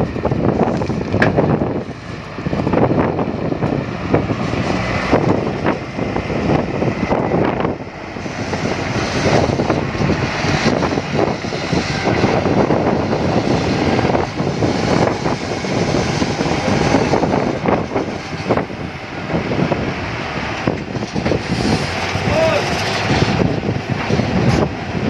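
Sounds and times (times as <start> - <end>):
concrete mixer truck rumbling: 0.0 - 25.0.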